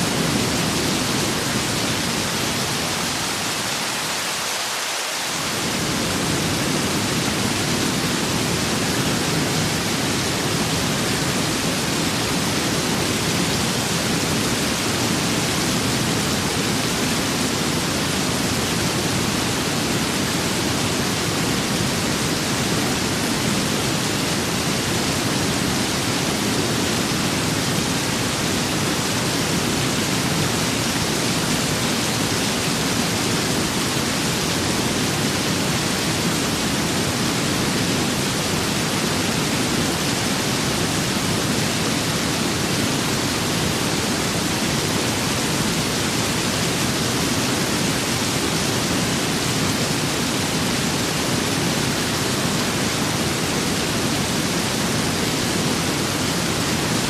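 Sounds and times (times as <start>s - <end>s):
steady rain with wind: 0.0s - 57.0s.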